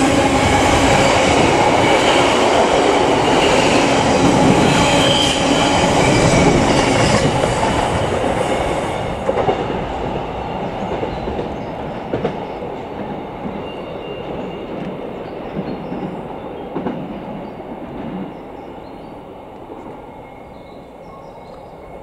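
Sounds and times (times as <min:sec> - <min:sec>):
freight train wheels clattering: 0:00.0 - 0:18.7.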